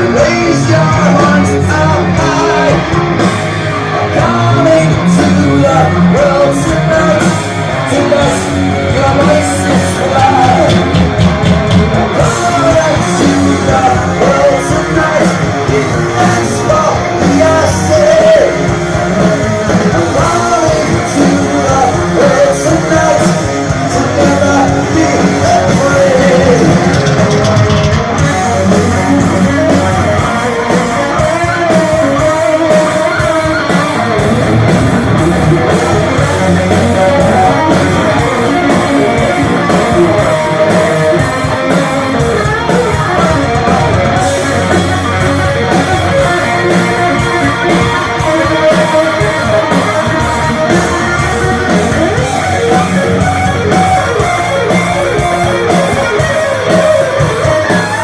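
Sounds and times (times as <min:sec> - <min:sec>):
electric guitars: 0:00.0 - 0:58.0
heavy metal band playing live: 0:00.0 - 0:58.0.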